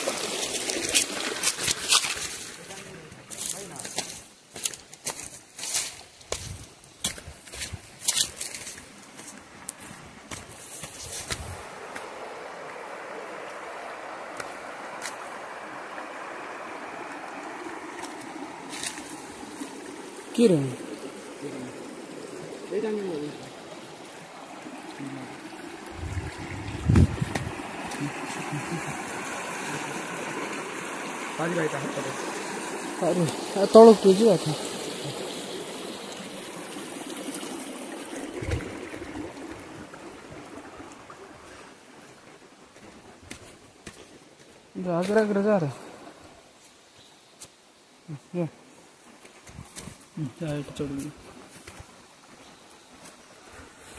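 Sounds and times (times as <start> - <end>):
stream running over rocks: 0.0 - 53.9.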